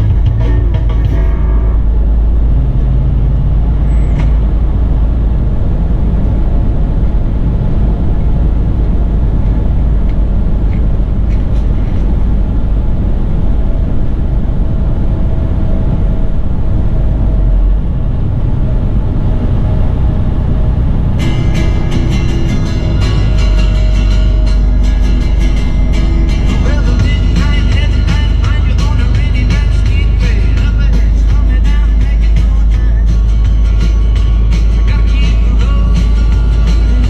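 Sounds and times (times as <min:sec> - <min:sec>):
truck engine and road rumble: 0:00.0 - 0:37.0.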